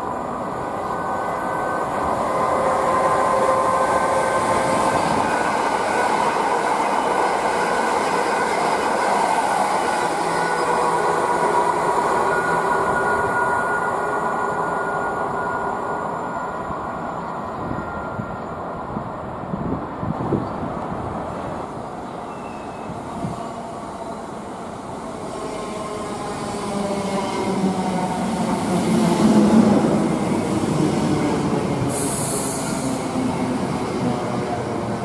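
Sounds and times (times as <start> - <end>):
electric train whining: 0.0 - 19.4, 22.2 - 35.0
train rail and wheel noise: 0.0 - 35.0.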